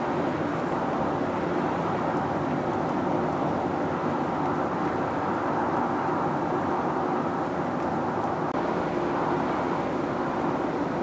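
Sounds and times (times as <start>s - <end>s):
road and tyre noise in car: 0.0s - 11.0s.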